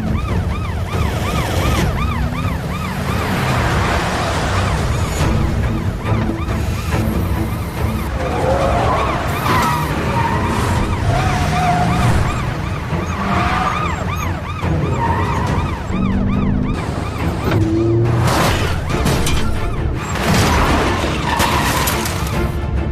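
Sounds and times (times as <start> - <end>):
police sirens yelping: 0.0 - 22.2
vehicles rumbling: 0.0 - 22.9.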